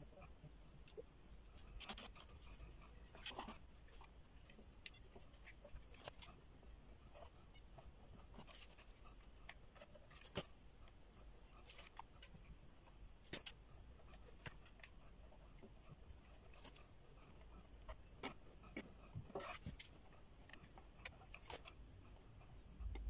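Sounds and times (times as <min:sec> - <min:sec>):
wooden sticks and cardboard handled: 0:00.0 - 0:23.0.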